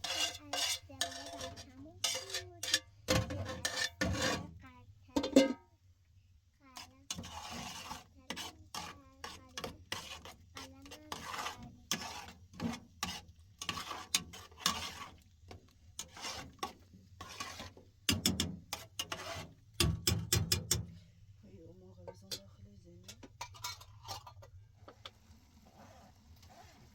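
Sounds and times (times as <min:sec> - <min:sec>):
cookware and utensils clacking: 0:00.0 - 0:04.5, 0:05.1 - 0:05.6, 0:06.8 - 0:20.9, 0:22.0 - 0:24.6.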